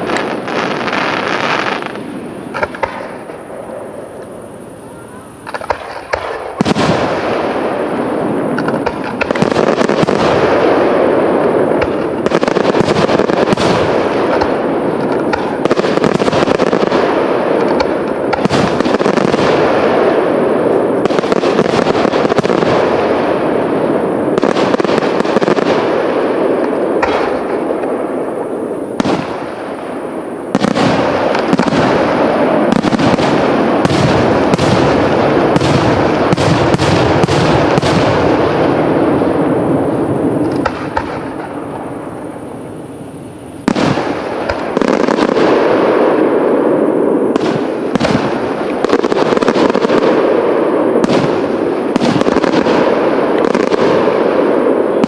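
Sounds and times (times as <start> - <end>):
fireworks bangs: 0.0 - 55.0
fireworks bursting and crackling: 0.0 - 55.0.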